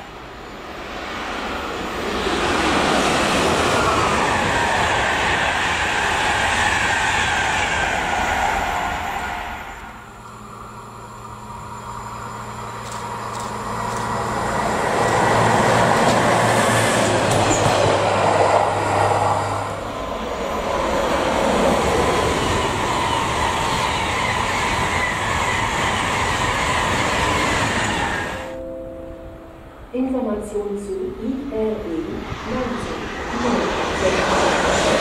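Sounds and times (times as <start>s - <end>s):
electric train humming: 0.0s - 35.0s
high-speed train rushing past: 0.0s - 35.0s.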